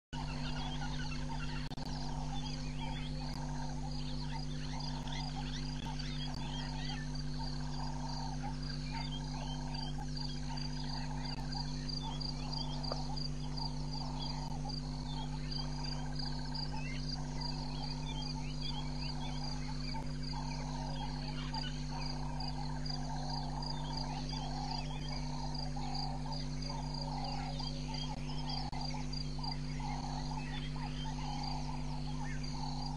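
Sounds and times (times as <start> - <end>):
birds chirping: 0.1 - 32.9
faint low hum: 0.2 - 32.9
frogs calling in chorus: 0.2 - 32.9
insects trilling: 0.2 - 32.9.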